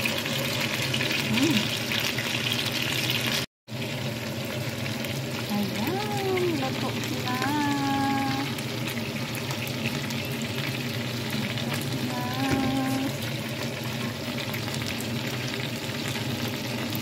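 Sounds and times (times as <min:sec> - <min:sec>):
chicken frying in a pan: 0:00.0 - 0:17.0.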